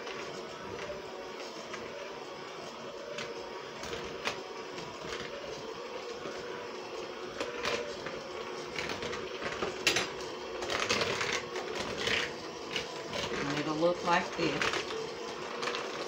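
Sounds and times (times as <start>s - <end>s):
electric hand mixer running: 0.0s - 16.0s.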